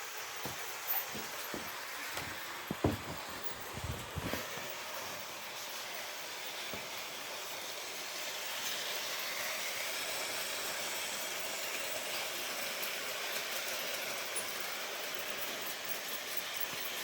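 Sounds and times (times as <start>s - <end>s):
model train whirring hiss: 0.0s - 17.0s.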